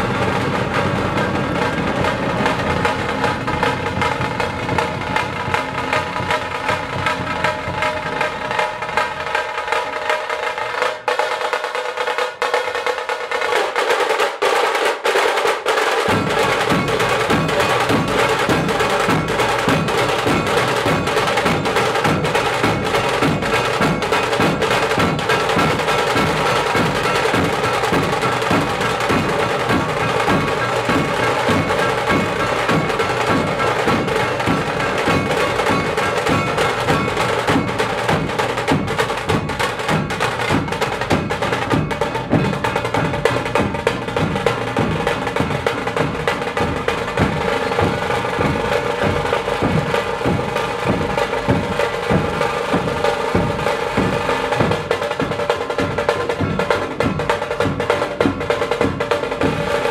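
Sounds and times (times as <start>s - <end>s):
deep barrel drum strokes: 0.0s - 12.2s, 16.0s - 59.9s
rapid rolling drums: 0.0s - 59.9s.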